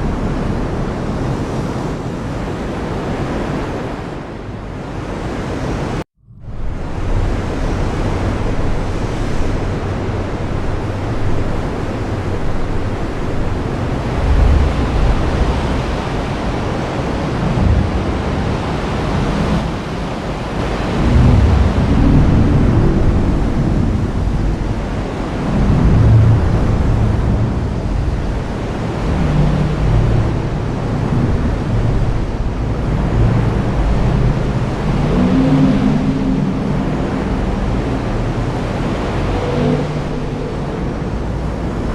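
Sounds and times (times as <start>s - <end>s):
thunder rumbling: 6.2s - 41.9s.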